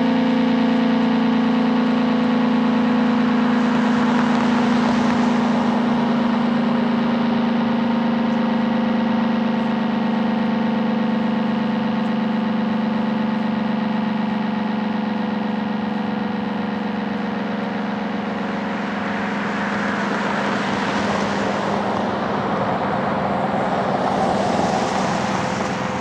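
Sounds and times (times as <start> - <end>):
warning siren winding down: 0.0 - 26.0.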